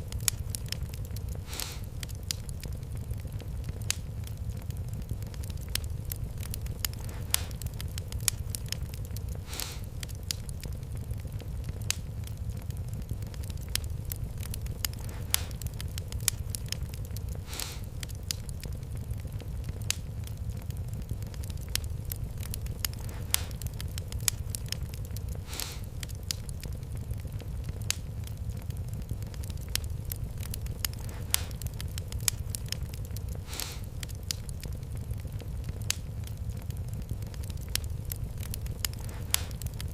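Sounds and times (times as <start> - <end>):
fire crackling: 0.0 - 39.9
fire hissing: 0.0 - 39.9.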